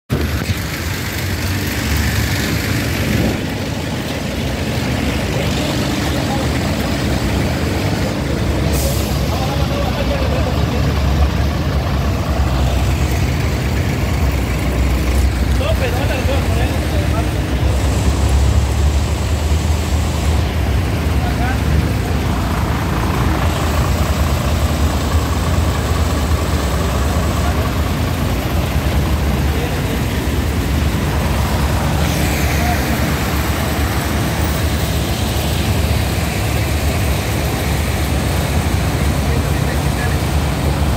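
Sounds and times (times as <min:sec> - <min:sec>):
truck engine idling: 0:00.1 - 0:40.9.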